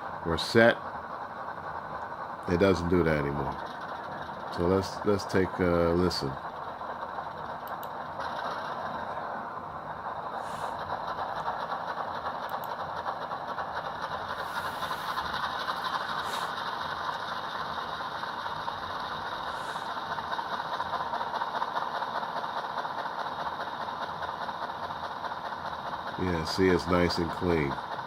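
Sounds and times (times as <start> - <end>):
model diesel engine sound from speaker: 0.0 - 28.0.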